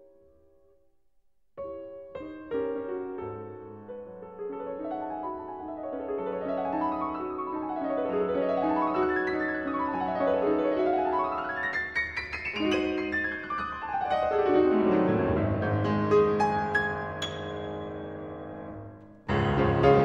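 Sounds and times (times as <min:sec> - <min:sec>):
piano arpeggios: 0:01.7 - 0:20.0.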